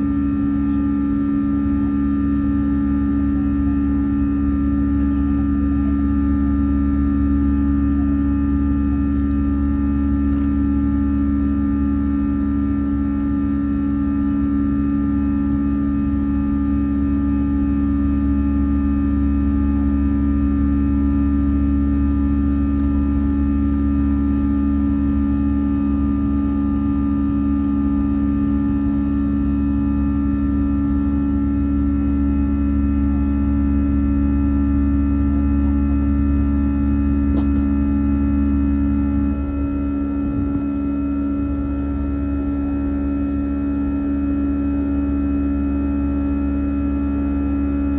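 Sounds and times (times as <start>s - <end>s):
jet airliner cabin drone: 0.0s - 47.9s.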